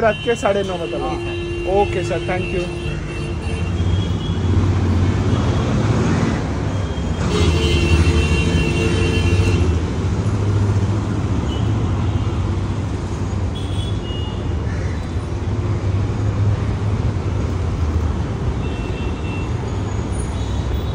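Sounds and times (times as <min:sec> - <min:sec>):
vehicle engines rumbling: 0:00.0 - 0:20.9.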